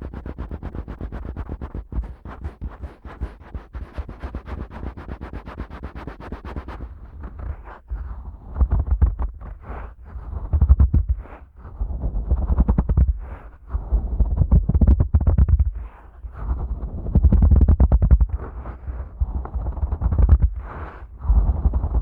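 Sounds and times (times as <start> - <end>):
fingers rubbing microphone ear: 0.0 - 22.0.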